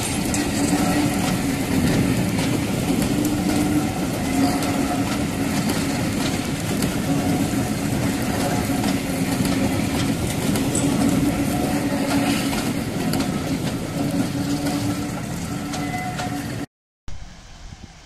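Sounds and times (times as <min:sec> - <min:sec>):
wheel clicks over rail joints: 0:00.0 - 0:14.8
wheels rumbling on rail: 0:00.0 - 0:18.0.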